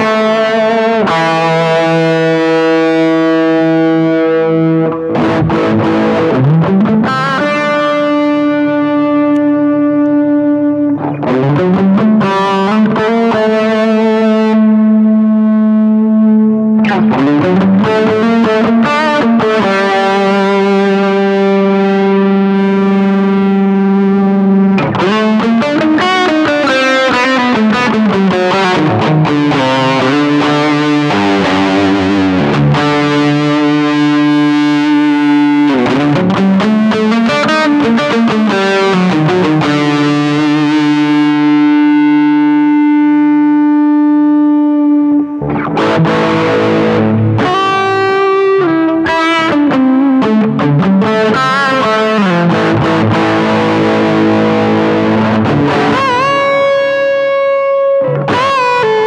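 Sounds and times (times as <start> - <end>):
distorted electric guitar notes: 0.0 - 59.0.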